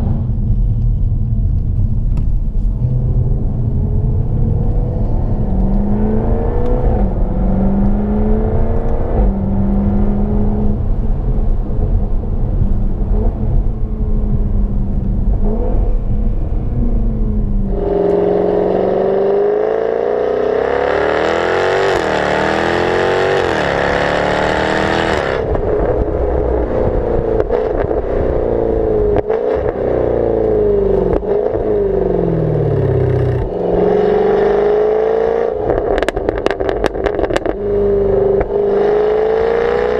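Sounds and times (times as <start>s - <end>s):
car engine revving: 2.6s - 39.9s.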